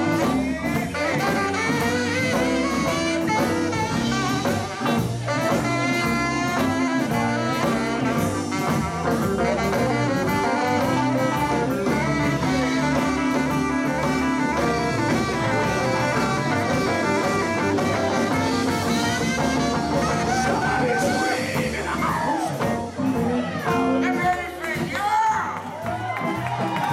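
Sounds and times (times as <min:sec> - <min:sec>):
saxophone: 0:00.0 - 0:24.0
live band playing: 0:00.0 - 0:26.9.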